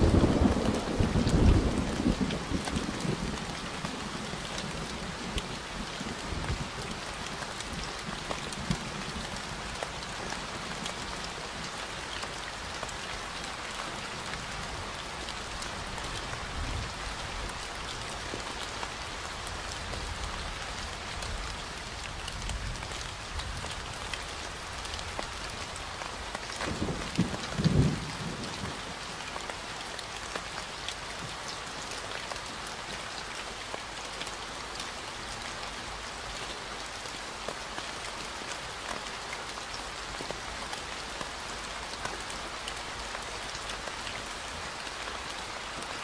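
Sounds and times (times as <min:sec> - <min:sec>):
close raindrop ticks: 0:00.0 - 0:46.0
rain falling: 0:00.0 - 0:46.0.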